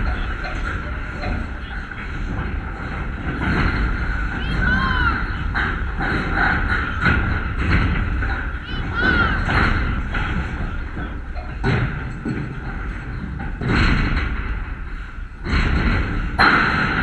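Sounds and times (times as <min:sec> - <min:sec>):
dull thumps: 0:00.0 - 0:17.0
steady low rumble: 0:00.0 - 0:17.0.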